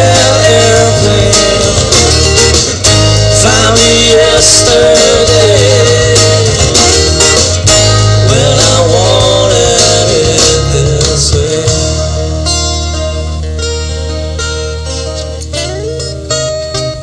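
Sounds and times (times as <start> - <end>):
lead guitar with bent notes: 0.0 - 17.0
live band playing: 0.0 - 17.0.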